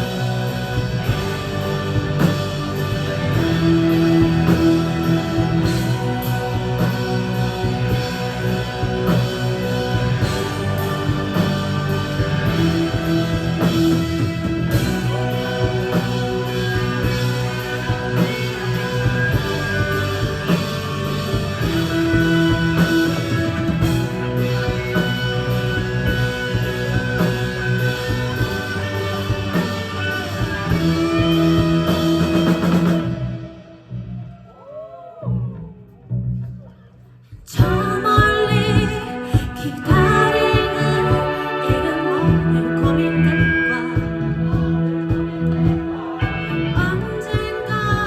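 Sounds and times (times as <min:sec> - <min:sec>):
rock band playing: 0:00.0 - 0:34.8, 0:37.5 - 0:48.0.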